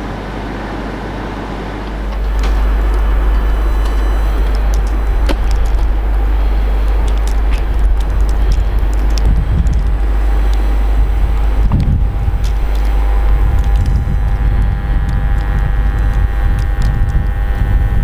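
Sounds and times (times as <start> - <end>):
train rumbling past: 0.0 - 16.7
electric whine: 0.0 - 18.0.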